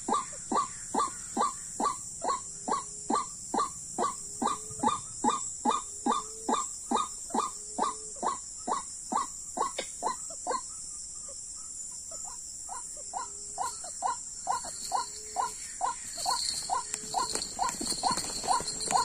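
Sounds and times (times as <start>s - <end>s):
bird croaking calls: 0.0s - 19.0s
high insect drone: 0.0s - 19.0s.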